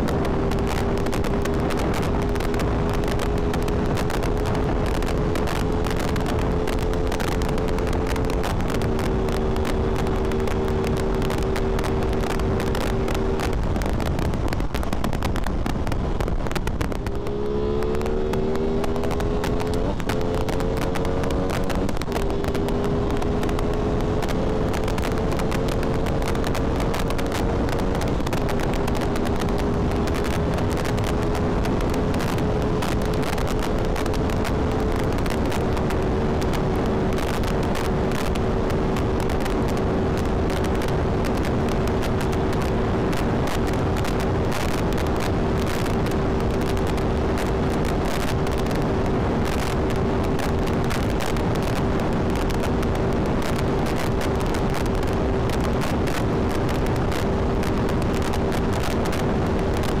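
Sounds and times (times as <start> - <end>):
motorcycle engine at high revs: 0.0 - 60.0
wind buffeting microphone: 0.0 - 60.0.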